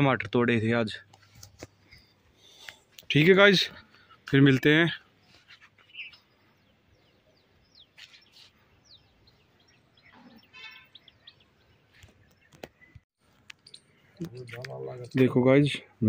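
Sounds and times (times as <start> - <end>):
bird chirping: 1.7 - 16.0.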